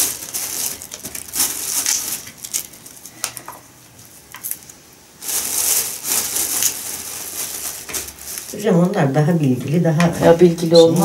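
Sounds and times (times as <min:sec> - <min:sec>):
hands rustling and crackling: 0:00.0 - 0:09.8.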